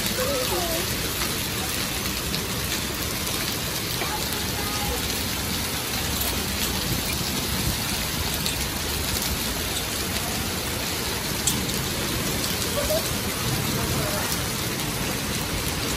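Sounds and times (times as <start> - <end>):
heavy rain on stone paving: 0.0 - 15.9.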